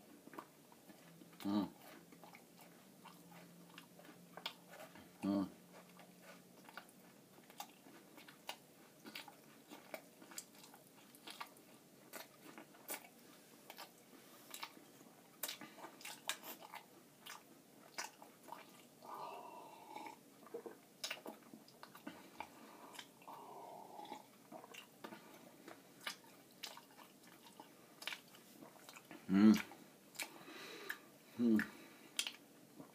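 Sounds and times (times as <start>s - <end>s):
chewing crunchy granola bar: 0.0s - 31.0s.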